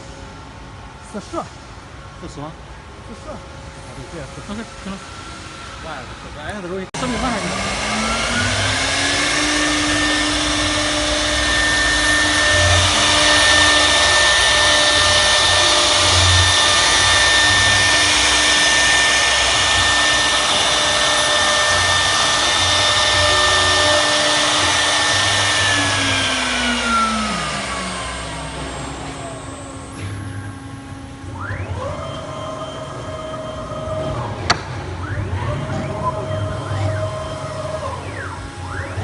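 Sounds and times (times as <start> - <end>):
router whining and winding down: 7.0 - 39.0.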